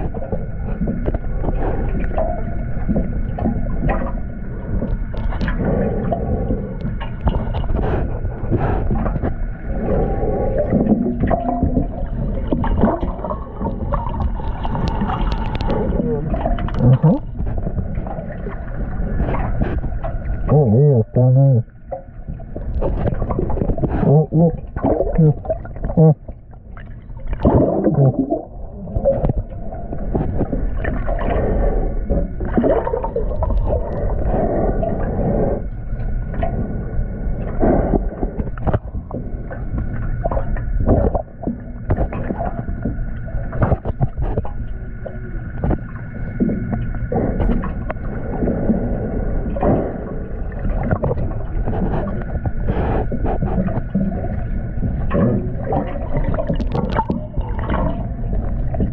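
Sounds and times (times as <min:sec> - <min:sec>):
gurgling bubbles: 0:00.0 - 0:58.9
low underwater rumble: 0:00.0 - 0:58.9.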